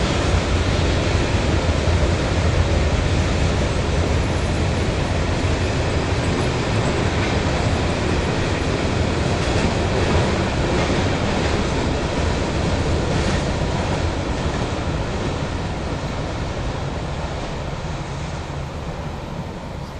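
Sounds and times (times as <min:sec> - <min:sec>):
freight train rumbling past: 0:00.0 - 0:19.9.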